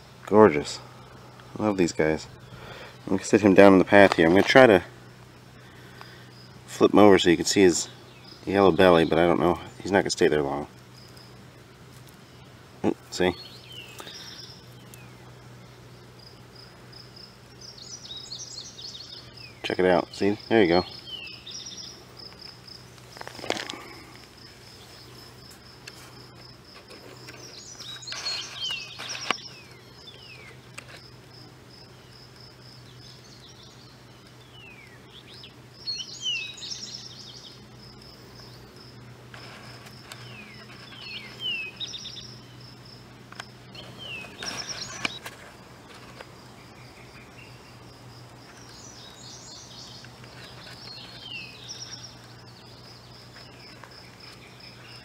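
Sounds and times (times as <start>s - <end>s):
high insect trill: 0.0s - 55.0s
songbird singing: 0.0s - 55.0s.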